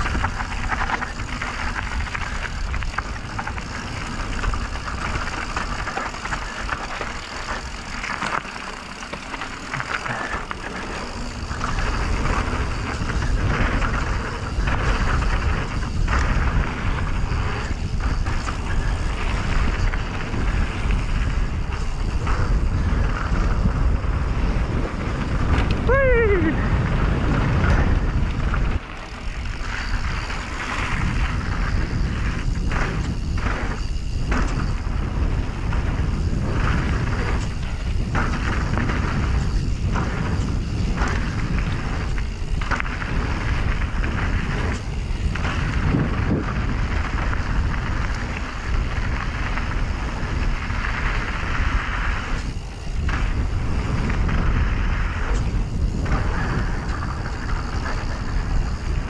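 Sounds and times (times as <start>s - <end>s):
bike rattling: 0.0s - 59.0s
knobby tyres rolling: 0.0s - 59.0s
wind rush on microphone: 0.0s - 59.0s.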